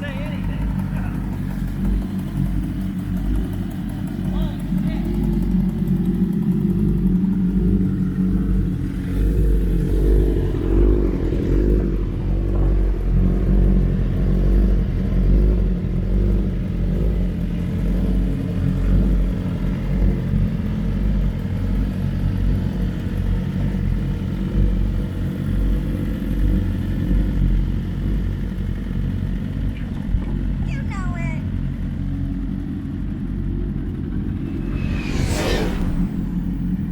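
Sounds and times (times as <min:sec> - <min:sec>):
motorcycle engines idling: 0:00.0 - 0:34.4.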